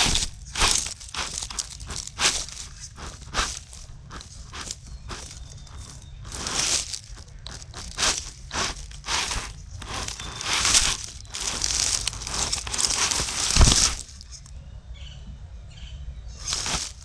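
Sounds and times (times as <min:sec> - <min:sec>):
tires crunching on gravel: 0:00.0 - 0:14.6, 0:16.3 - 0:17.0.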